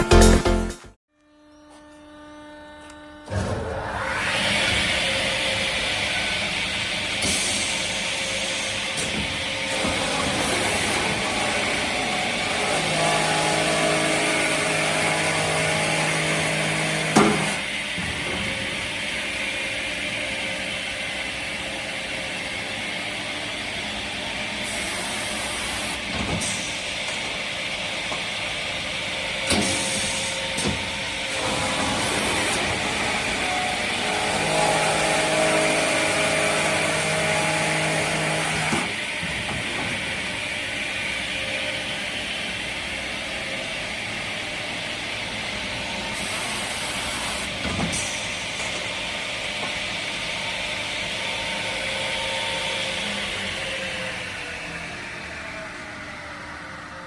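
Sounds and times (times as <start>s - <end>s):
loud pitched hum: 0.0s - 57.0s
circular saw machine running: 1.2s - 57.0s.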